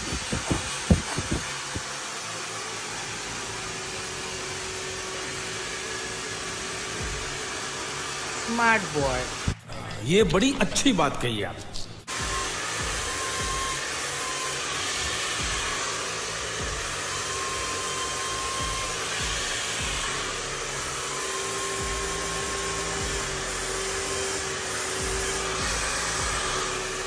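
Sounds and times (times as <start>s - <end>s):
hair dryer blowing air: 0.0s - 9.6s, 12.1s - 27.0s.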